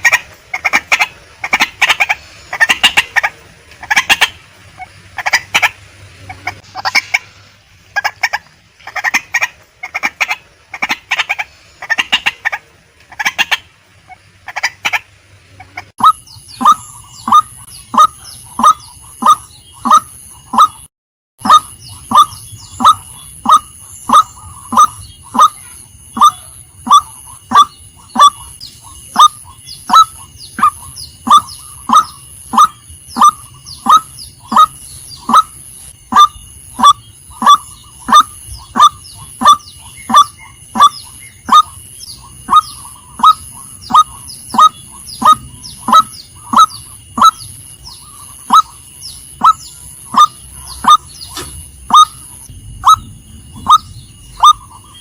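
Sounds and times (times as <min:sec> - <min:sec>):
waterhen honking calls: 0:00.0 - 0:55.0.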